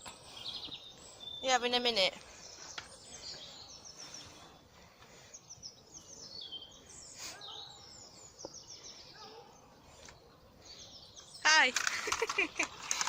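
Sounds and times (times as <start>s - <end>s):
small songbirds singing: 0.0s - 12.8s
faint outdoor background noise: 0.0s - 13.0s.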